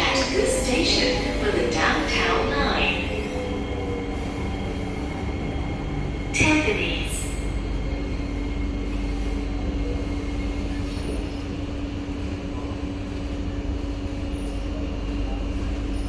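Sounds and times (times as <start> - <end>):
train carriage hum: 0.0 - 16.0.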